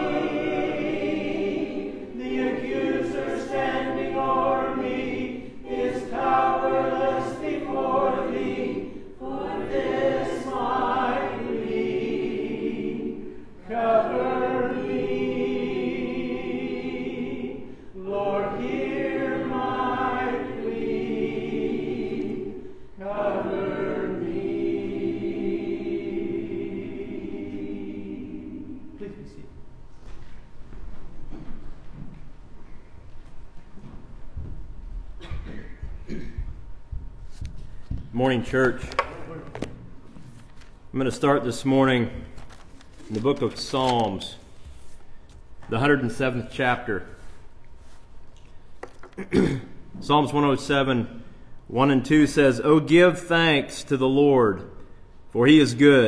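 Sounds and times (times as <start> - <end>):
congregation singing a hymn: 0.0 - 29.7, 35.2 - 56.0.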